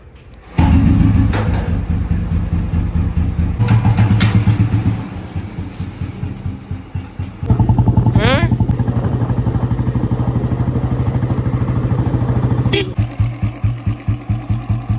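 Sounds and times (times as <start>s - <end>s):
motorcycle engine revving: 0.4s - 14.9s.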